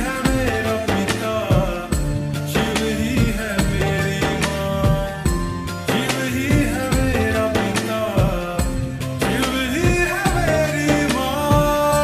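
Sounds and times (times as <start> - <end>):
gliding melody over a steady beat: 0.0 - 12.0.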